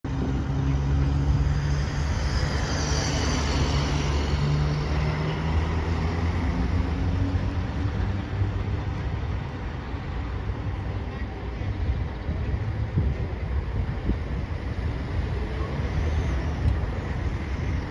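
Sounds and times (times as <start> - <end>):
street traffic: 0.0 - 17.9
vehicle engines droning: 0.1 - 17.9.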